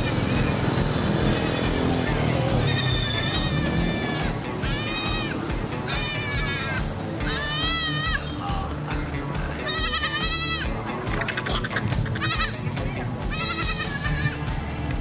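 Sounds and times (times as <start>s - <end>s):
monkey screeching: 0.0s - 8.4s, 9.6s - 12.6s, 13.3s - 14.4s.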